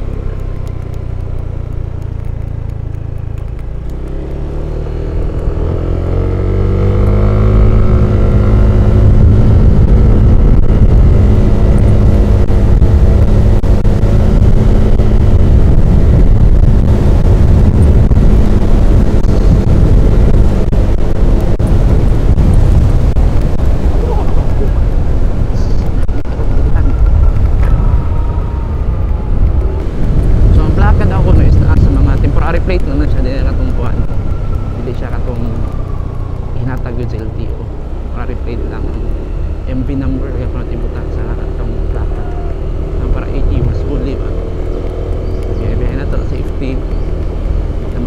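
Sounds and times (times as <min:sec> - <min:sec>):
scooter engine accelerating: 0:00.0 - 0:48.0
wind rushing on microphone: 0:00.0 - 0:48.0.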